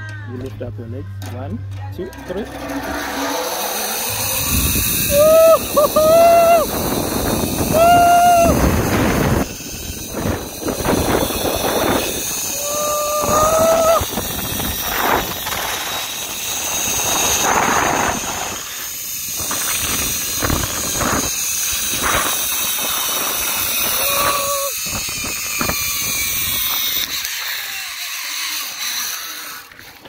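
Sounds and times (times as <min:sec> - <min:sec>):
trolley running along cable: 0:02.0 - 0:30.0
rushing wind: 0:02.6 - 0:27.3.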